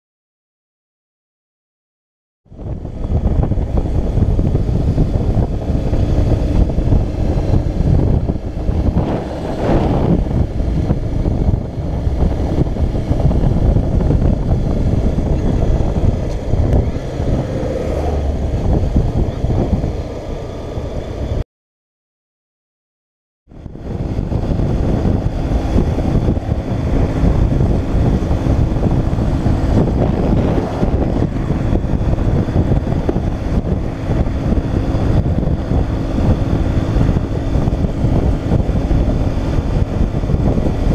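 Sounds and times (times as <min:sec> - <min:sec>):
motorcycle engine: 0:02.5 - 0:21.4, 0:23.5 - 0:40.9
road noise: 0:02.5 - 0:21.4, 0:23.5 - 0:40.9
wind rushing over microphone: 0:02.5 - 0:21.4, 0:23.5 - 0:40.9.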